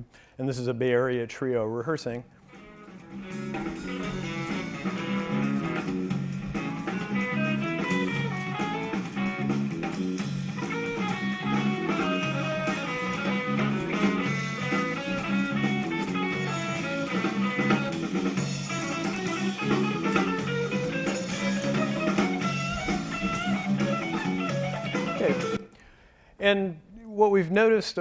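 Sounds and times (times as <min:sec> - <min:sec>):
guitar: 0:02.3 - 0:26.0
drums: 0:02.5 - 0:25.7
electric bass guitar: 0:02.5 - 0:25.7.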